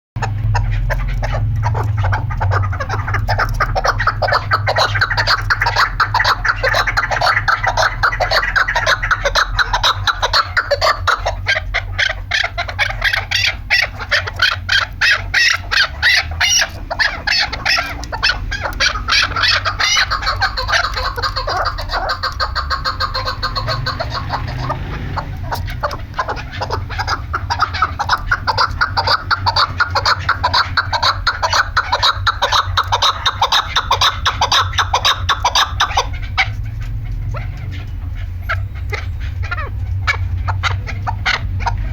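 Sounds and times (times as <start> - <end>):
partridge clucking call: 0.2 - 41.9
steady low hum: 0.2 - 41.9.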